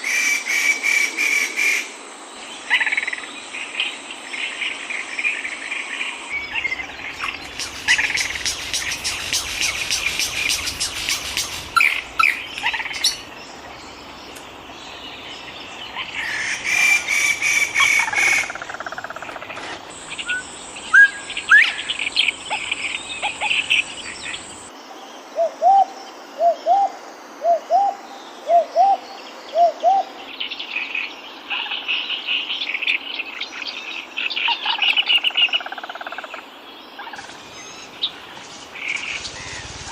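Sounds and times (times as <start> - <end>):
insects buzzing: 0.0 - 39.9
high insect whine: 0.5 - 39.9
birds chirping and trilling: 1.3 - 25.8, 26.4 - 39.9.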